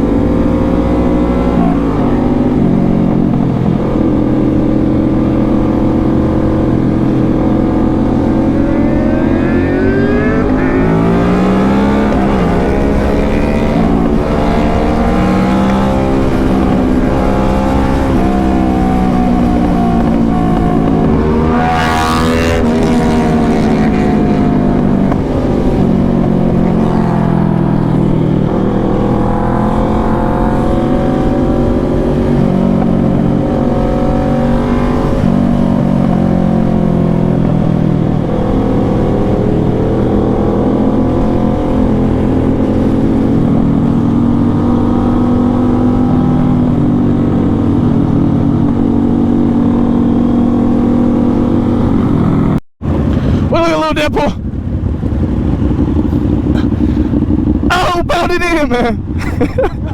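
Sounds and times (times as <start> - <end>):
motorcycle engine rev: 0.0 - 53.5, 54.4 - 58.0
motorcycle engines running: 0.0 - 59.9.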